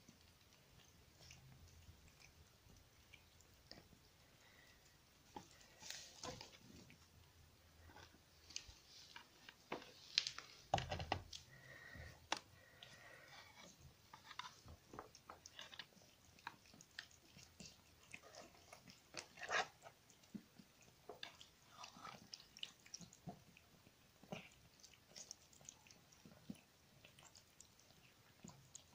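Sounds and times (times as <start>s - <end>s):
kittens chewing wet food: 0.0s - 28.9s.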